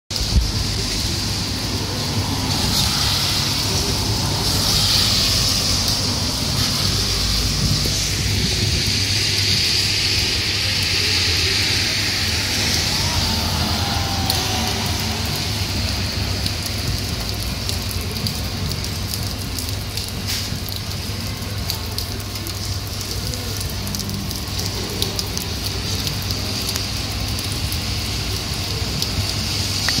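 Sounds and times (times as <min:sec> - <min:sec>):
heavy rain on street: 0:00.1 - 0:30.0.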